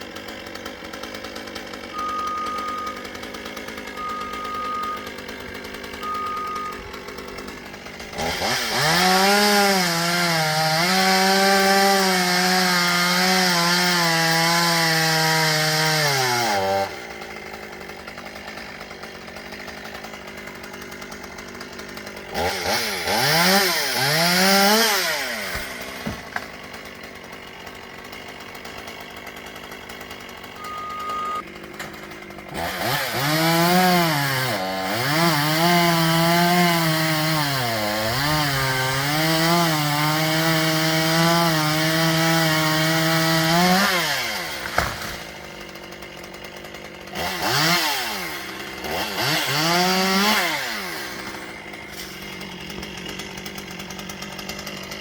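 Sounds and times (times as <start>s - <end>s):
chainsaw revving and cutting wood: 0.0s - 55.0s.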